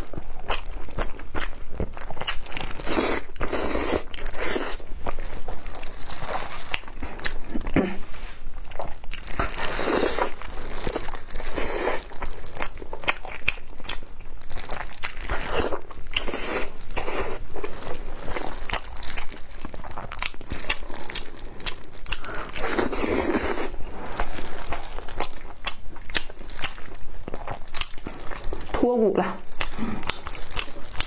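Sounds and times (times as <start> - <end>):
chewing and biting meat: 0.0 - 7.5, 8.7 - 28.7, 29.5 - 31.0.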